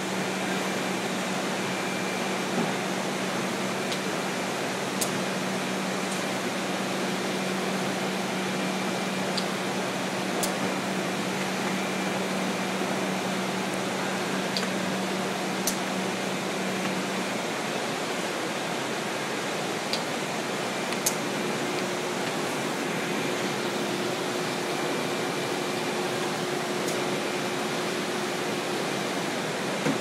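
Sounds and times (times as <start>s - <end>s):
machine whir of belts and rollers: 0.0s - 30.0s.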